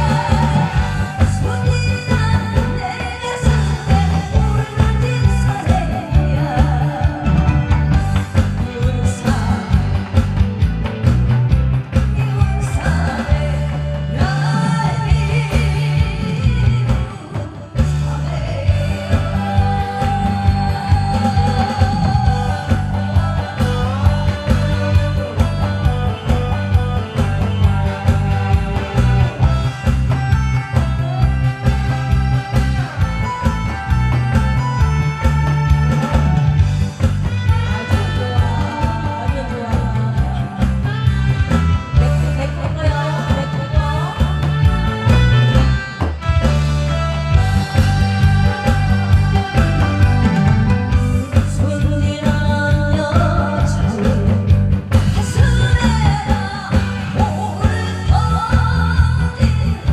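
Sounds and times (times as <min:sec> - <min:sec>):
woman singing with vibrato: 0:00.0 - 0:10.6, 0:12.0 - 0:46.3, 0:47.0 - 0:59.9
backing track with beat: 0:00.0 - 0:59.9.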